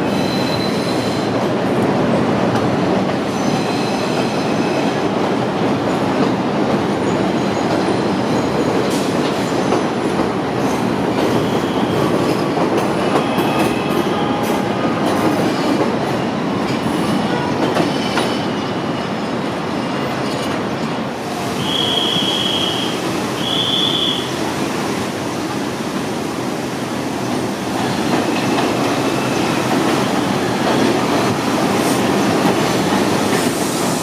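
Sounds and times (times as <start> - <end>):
subway train wheels rumbling: 0.0 - 34.0.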